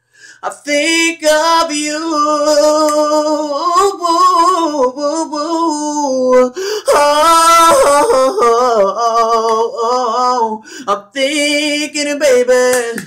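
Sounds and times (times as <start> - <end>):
man singing a cappella: 0.2 - 13.0.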